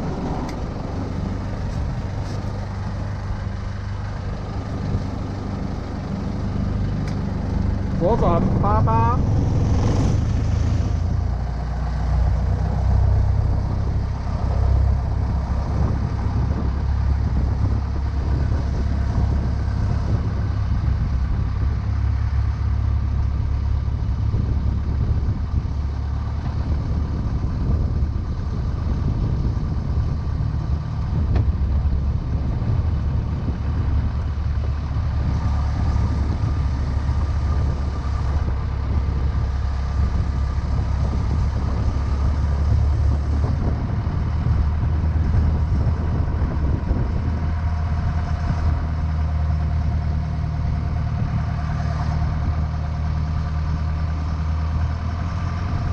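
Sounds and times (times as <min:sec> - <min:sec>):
powerboat engine droning: 0:00.0 - 0:55.9.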